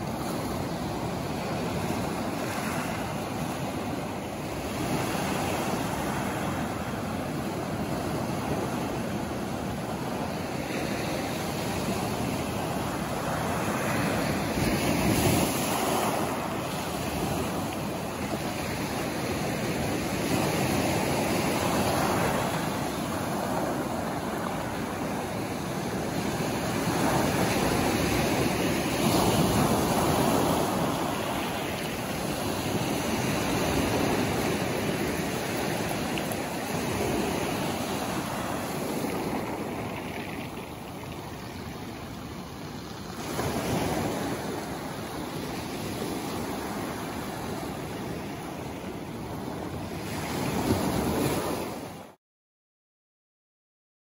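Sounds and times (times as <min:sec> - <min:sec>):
surf washing up pebble beach: 0:00.0 - 0:52.1.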